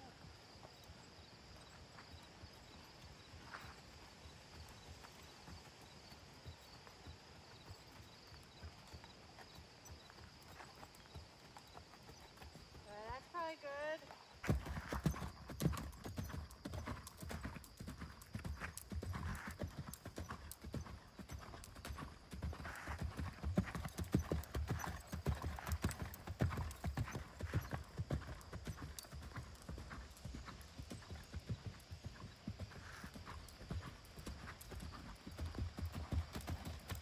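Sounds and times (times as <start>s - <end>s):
horse hooves trotting on sand: 0.0s - 37.0s.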